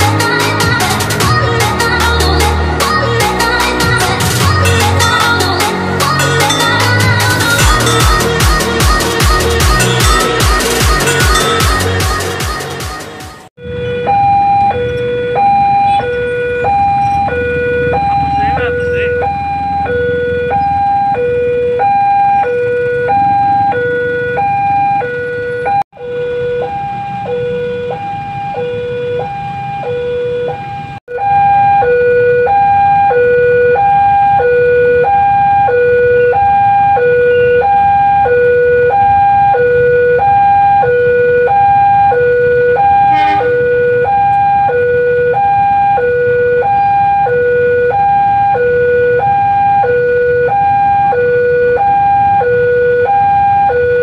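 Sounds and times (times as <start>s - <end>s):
level-crossing two-note alarm: 6.2s - 12.6s, 13.6s - 54.0s.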